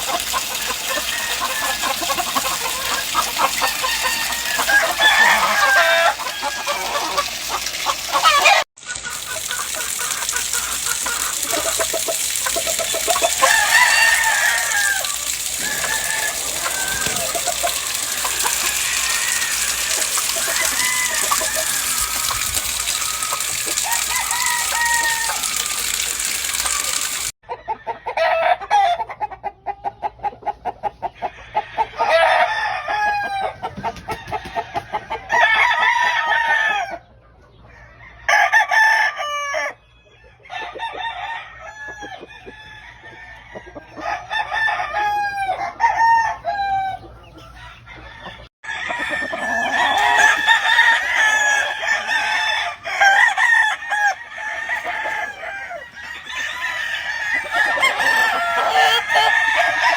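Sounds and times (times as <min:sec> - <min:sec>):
roosters crowing: 0:00.0 - 0:29.1, 0:31.1 - 0:59.9
chickens clucking: 0:00.0 - 0:35.5, 0:37.0 - 0:38.0, 0:39.2 - 0:59.9.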